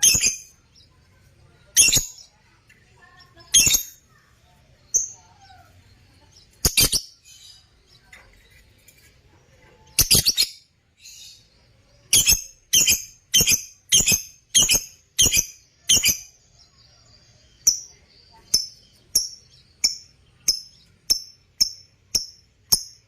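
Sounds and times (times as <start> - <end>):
lovebirds chirping: 0.0 - 23.0.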